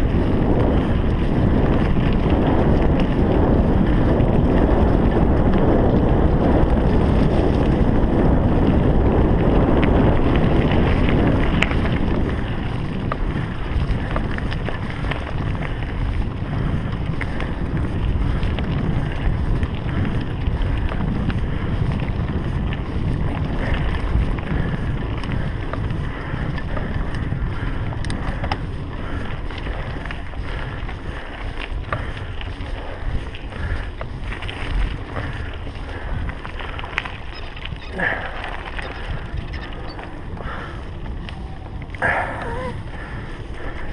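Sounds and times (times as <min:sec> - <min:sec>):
bike knocks and rattles: 0:00.0 - 0:43.9
wind rushing over microphone: 0:00.0 - 0:43.9.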